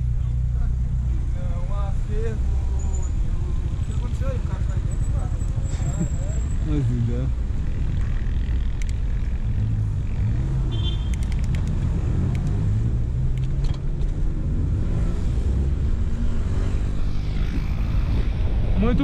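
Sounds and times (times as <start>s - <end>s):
bicycle road rumble: 0.0s - 19.0s.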